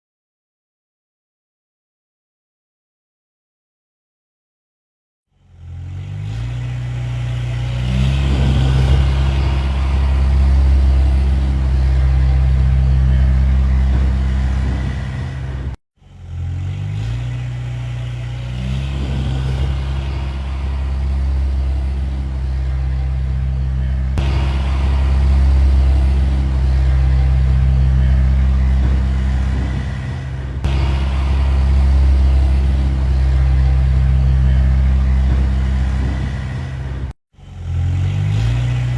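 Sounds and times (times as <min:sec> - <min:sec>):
tractor engine revving: 0:05.4 - 0:38.9.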